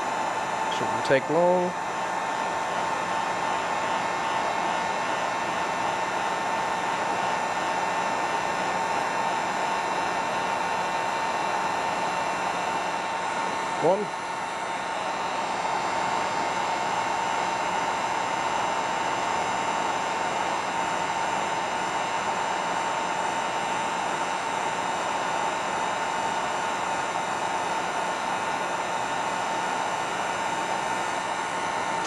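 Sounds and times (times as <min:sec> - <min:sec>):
heat gun whine: 0:00.0 - 0:32.0.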